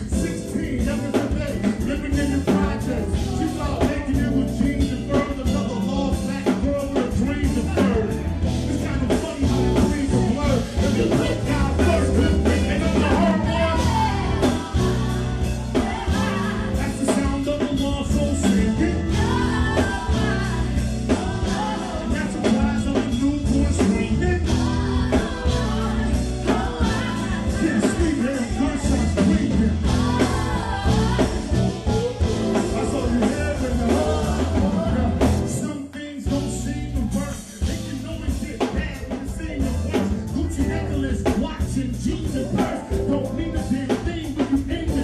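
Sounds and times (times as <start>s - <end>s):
live band music: 0.0s - 45.0s.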